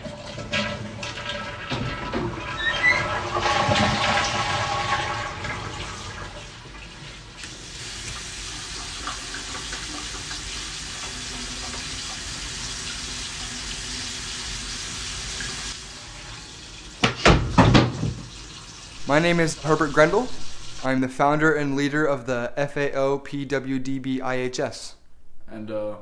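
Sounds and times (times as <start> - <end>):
water running from sink tap: 0.0 - 20.9.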